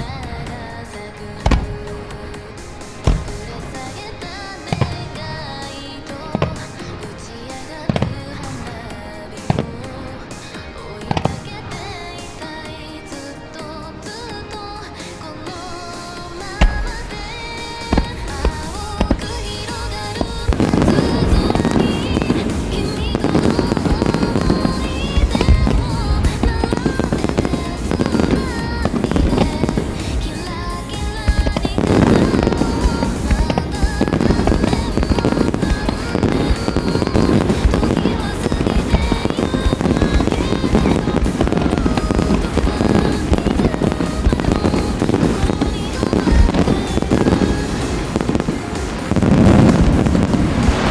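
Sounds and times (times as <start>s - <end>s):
fireworks bangs and crackles: 0.0s - 13.2s, 16.2s - 50.9s
background music: 0.0s - 50.9s.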